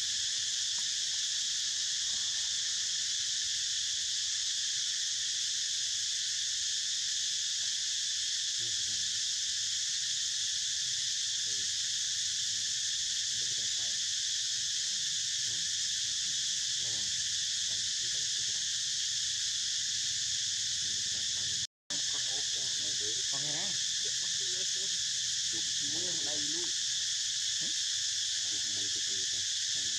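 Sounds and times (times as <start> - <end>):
insect chorus buzzing: 0.0 - 29.9.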